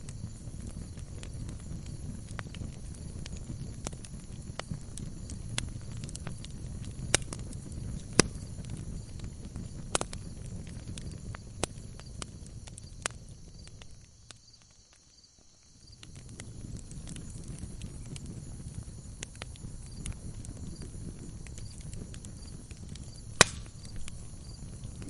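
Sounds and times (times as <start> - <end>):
burning logs popping: 0.0 - 25.0
low rumble of flames: 0.0 - 25.0
wood fire crackling: 0.0 - 25.0.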